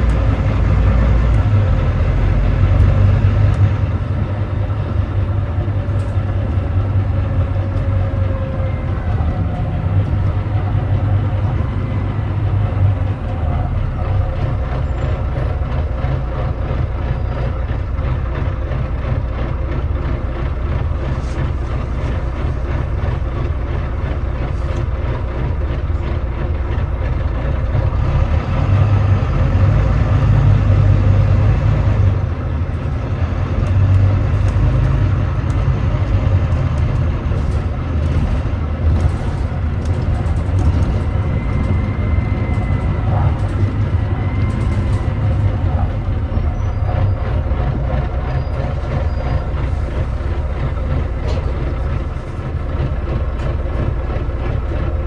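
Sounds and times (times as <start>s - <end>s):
bus diesel engine pulling: 0.0s - 55.0s.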